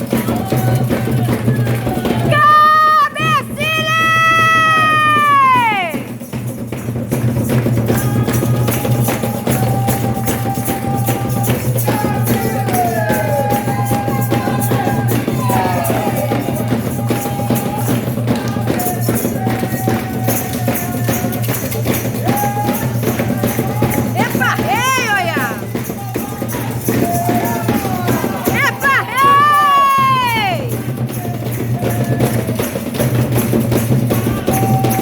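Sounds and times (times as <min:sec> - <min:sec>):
ritual drums and percussion: 0:00.0 - 0:35.0.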